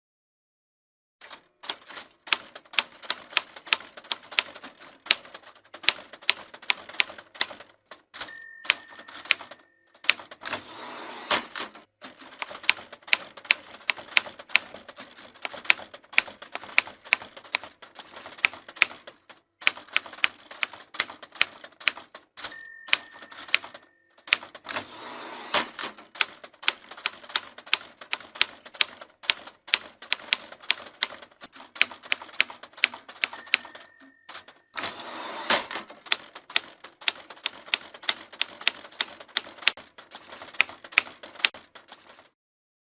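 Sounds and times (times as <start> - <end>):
typewriter margin bell: 1.2 - 42.3
typewriter carriage return: 1.2 - 42.4
typewriter typing: 1.2 - 42.4.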